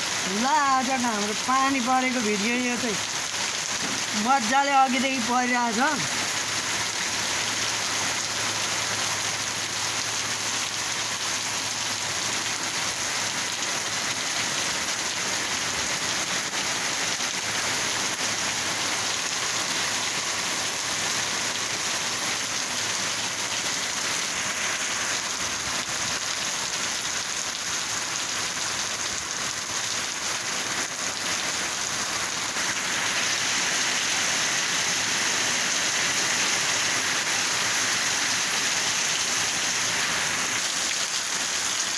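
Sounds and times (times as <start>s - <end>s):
heavy rain pattering: 0.0s - 41.9s.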